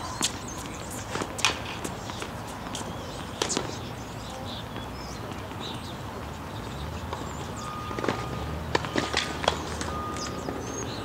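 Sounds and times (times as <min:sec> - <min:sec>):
birds chirping: 0:00.0 - 0:11.0
outdoor background: 0:00.0 - 0:11.0.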